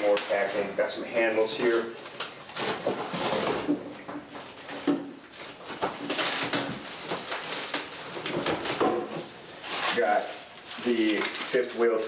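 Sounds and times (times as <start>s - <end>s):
cardboard rustling and scraping: 0.0s - 12.0s.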